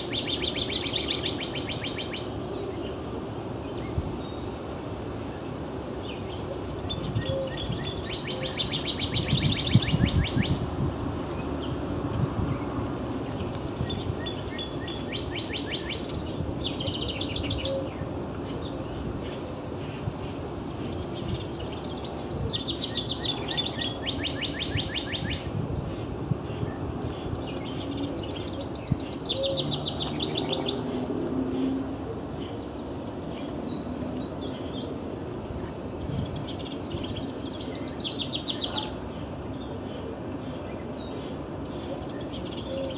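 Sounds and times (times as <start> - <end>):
birds singing trilled songs: 0.0 - 42.9.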